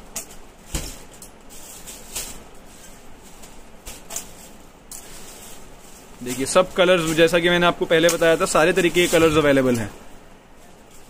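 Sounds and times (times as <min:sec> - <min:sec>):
garments rustling: 0:00.0 - 0:11.0
low background hiss: 0:00.0 - 0:11.0.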